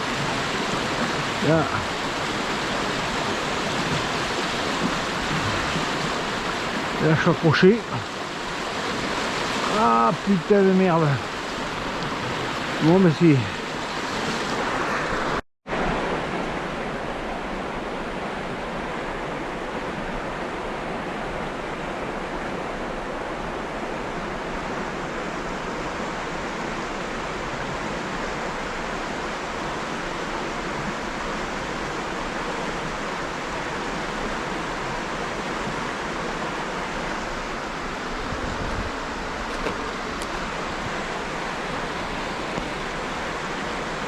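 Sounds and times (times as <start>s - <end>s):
river rushing over shallows: 0.0s - 44.0s.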